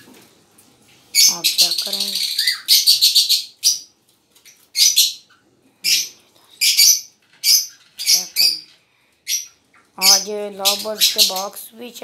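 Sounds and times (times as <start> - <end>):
birds chattering shrilly: 1.2 - 11.6.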